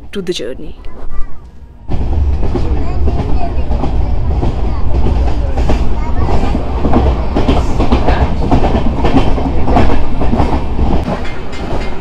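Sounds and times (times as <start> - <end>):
train rumbling at speed: 0.0 - 12.0
wheels clattering over rail joints: 2.0 - 12.0.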